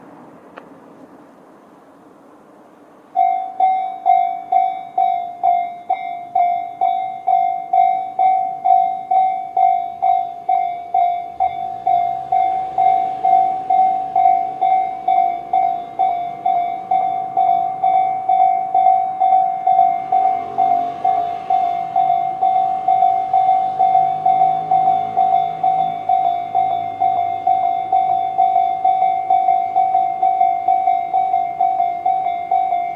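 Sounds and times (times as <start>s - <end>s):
level crossing warning bell: 3.1s - 32.9s.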